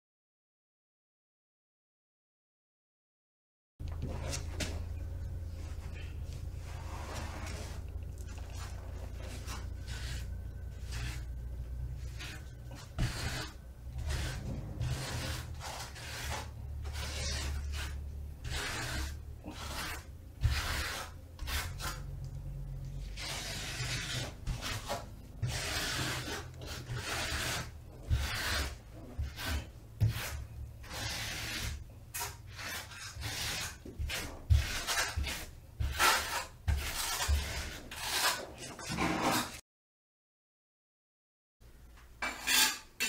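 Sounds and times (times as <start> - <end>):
grout float scraping tile: 3.9 - 39.6, 42.2 - 43.0.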